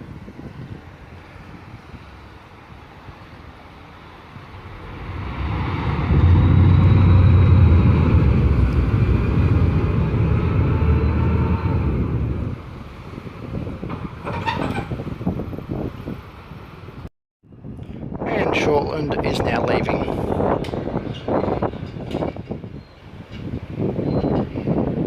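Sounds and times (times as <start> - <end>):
ferry engines rumbling: 0.0 - 25.0.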